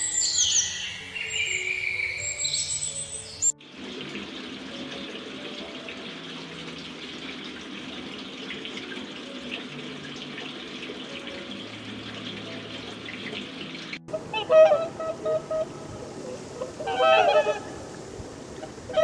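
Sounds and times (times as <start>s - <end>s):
water running: 3.5s - 19.0s.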